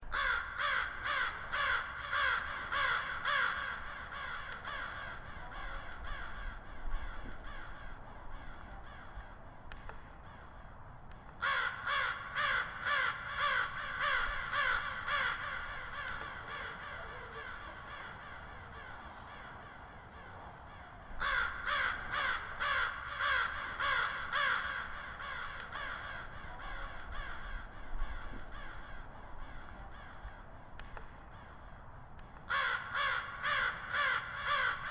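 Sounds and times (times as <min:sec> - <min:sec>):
crow cawing: 0:00.1 - 0:09.4, 0:11.4 - 0:31.9, 0:32.5 - 0:34.9.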